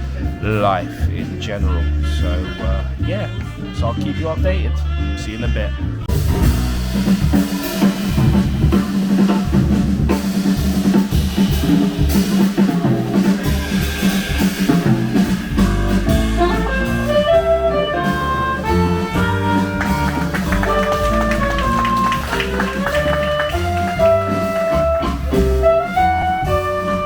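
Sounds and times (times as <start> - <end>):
bass: 0.0 - 27.0
drum kit: 0.0 - 27.0
horn melody of held notes: 0.4 - 9.4, 13.2 - 27.0.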